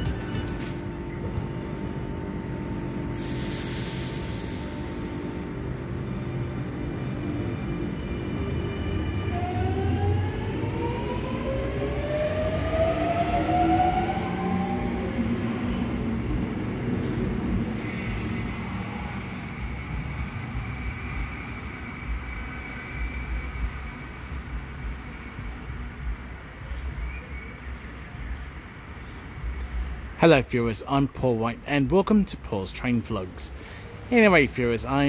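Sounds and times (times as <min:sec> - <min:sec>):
train rumble: 0:00.0 - 0:30.9
steady high whine: 0:00.0 - 0:35.0.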